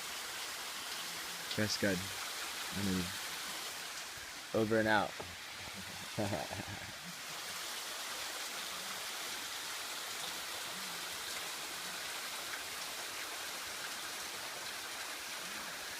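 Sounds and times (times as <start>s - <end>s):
waterfall rushing: 1.5s - 15.9s.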